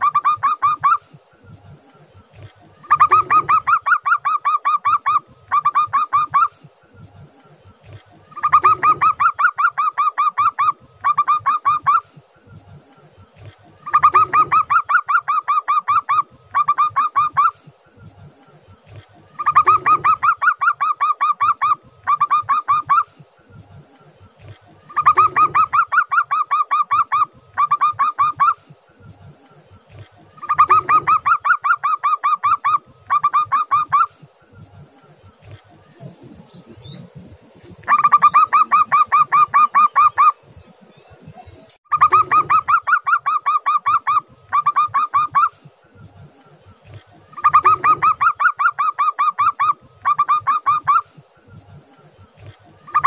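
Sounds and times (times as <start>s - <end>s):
dove cooing: 0.0s - 1.2s, 2.2s - 6.8s, 7.5s - 12.3s, 13.3s - 40.5s, 41.9s - 45.7s, 46.8s - 51.8s, 52.4s - 53.0s.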